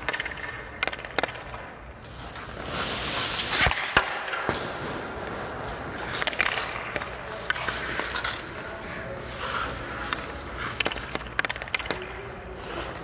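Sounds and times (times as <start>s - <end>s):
stick and puck cracks: 0.0s - 8.8s, 9.6s - 13.0s
hockey skates scraping ice: 0.0s - 13.0s
knocks of gear and skates: 0.0s - 13.0s.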